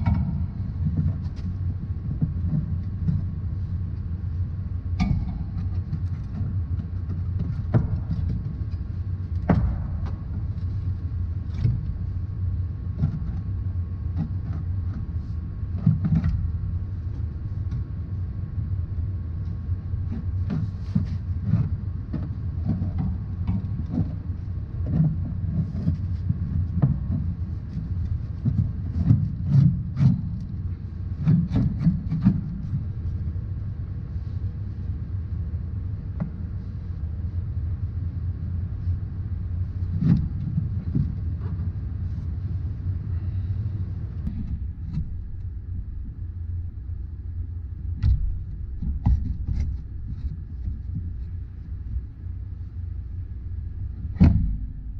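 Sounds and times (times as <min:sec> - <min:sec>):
steady low rumble: 0:00.0 - 0:54.9.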